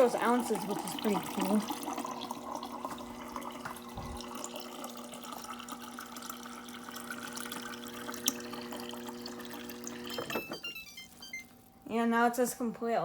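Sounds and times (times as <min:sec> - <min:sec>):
water running into a container: 0:00.0 - 0:11.7
water dispenser hum: 0:00.0 - 0:11.8.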